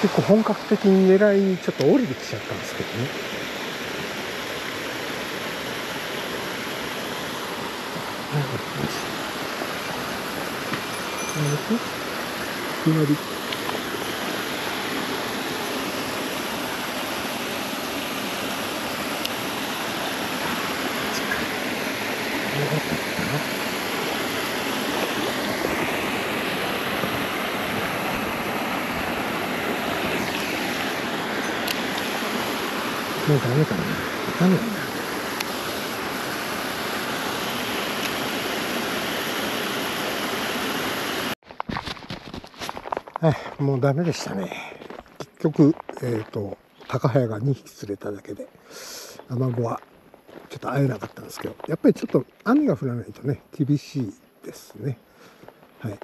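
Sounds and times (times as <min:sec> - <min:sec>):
mountain stream flowing: 0:00.0 - 0:56.0.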